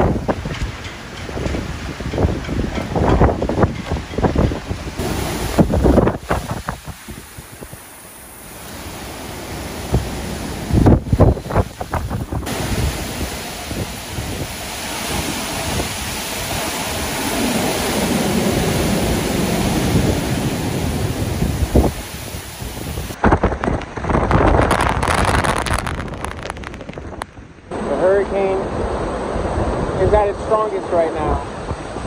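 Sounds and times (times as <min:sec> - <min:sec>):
heavy rain: 0:00.0 - 0:32.0
strong wind gusts: 0:00.0 - 0:32.0
wind buffeting microphone: 0:00.0 - 0:32.0.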